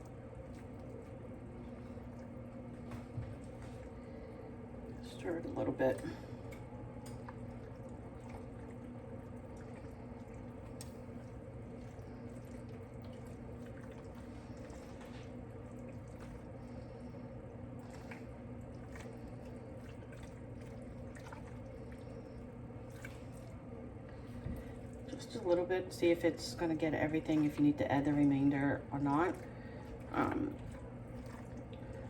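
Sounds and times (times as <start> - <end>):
pasta stirred in sauce: 0.0 - 32.0.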